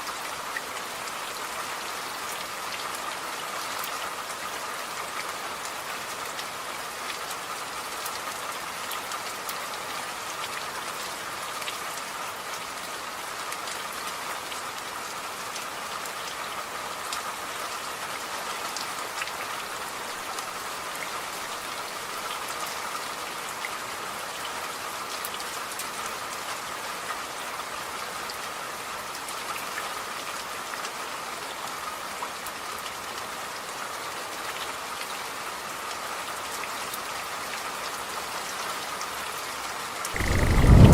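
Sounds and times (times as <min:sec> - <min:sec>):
steady rain with ticking drops: 0:00.0 - 0:40.9.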